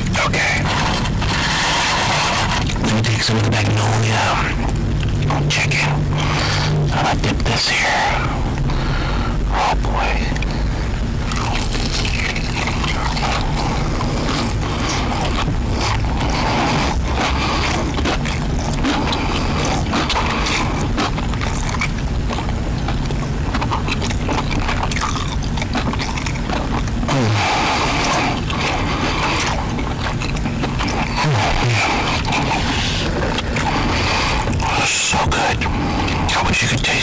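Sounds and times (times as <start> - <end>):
crunchy chewing: 0.0 - 37.0
steady low rumble: 0.0 - 37.0.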